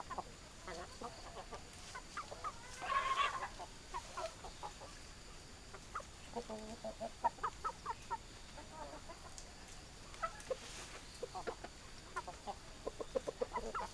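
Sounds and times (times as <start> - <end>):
hens clucking: 0.0 - 13.9.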